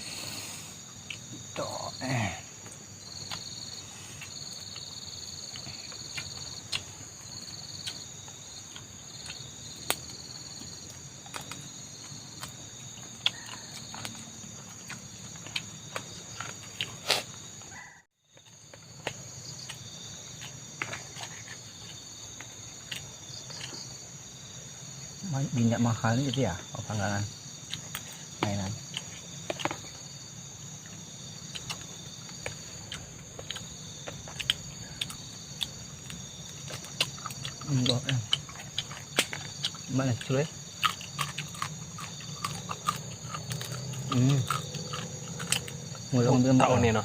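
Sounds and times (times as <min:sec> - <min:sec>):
insects chorus: 0:00.0 - 0:47.0.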